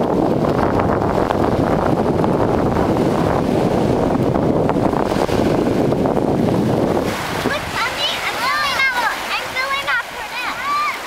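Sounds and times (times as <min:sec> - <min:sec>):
small waves washing onto beach: 0:00.0 - 0:11.0
wind buffeting microphone: 0:00.0 - 0:11.0.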